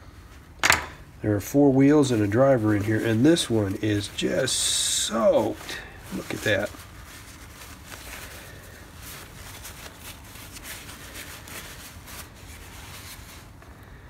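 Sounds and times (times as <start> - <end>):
paper towel rubbing: 1.3 - 14.0.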